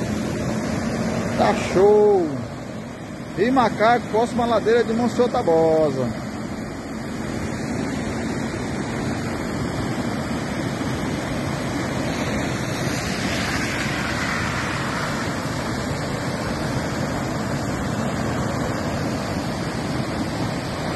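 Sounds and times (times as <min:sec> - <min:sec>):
flood water rushing: 0:00.0 - 0:20.9.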